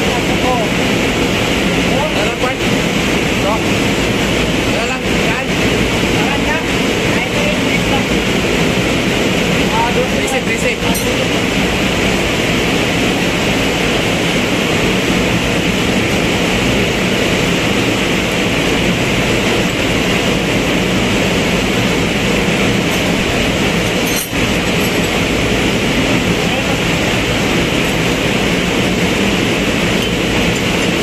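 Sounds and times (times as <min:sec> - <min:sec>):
engine room machinery din: 0:00.0 - 0:31.0.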